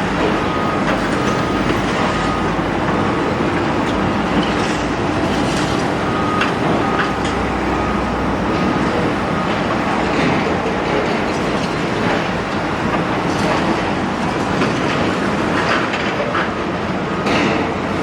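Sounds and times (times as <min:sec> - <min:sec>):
diesel engine running: 0:00.0 - 0:14.6.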